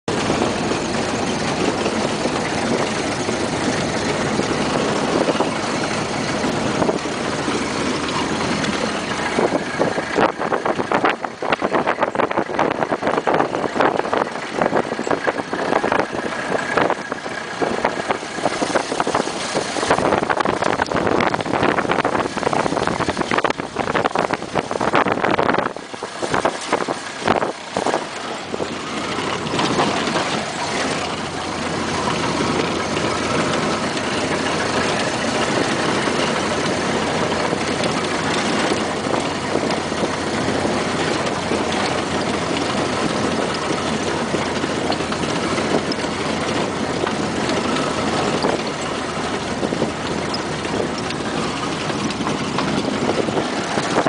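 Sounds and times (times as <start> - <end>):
car engine running: 0.0 - 54.0
wind buffeting microphone: 0.1 - 54.0.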